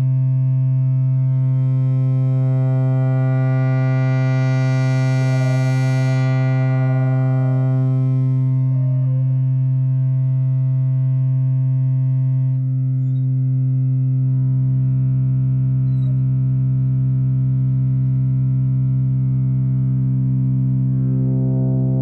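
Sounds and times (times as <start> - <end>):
synthesizer drone: 0.7 - 15.8, 16.4 - 22.0.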